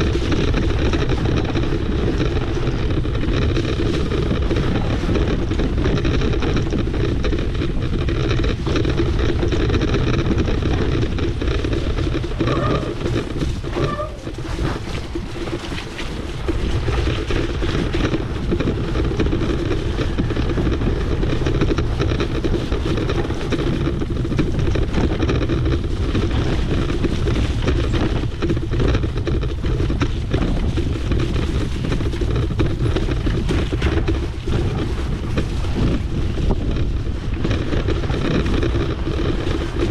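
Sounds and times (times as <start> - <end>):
mountain bike rumble and rattle: 0.0 - 39.9
wind buffeting microphone: 0.0 - 39.9.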